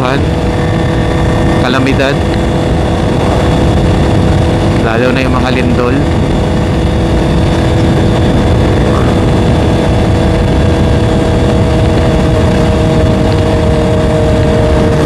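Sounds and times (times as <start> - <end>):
motorcycle engine cruising: 0.0 - 15.0
wind rumble on microphone: 0.0 - 15.0.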